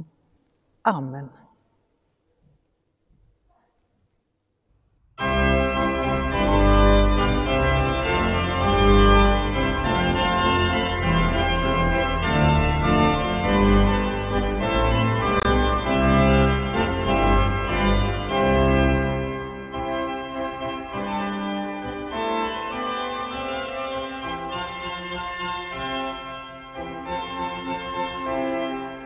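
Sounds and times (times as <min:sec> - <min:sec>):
church organ playing chords: 0:05.2 - 0:29.0.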